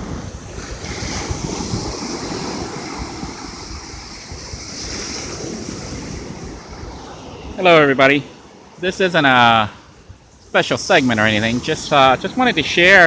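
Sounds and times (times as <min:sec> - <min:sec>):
surf breaking on sandy beach: 0:00.0 - 0:13.0
wind buffeting microphone: 0:00.0 - 0:13.0.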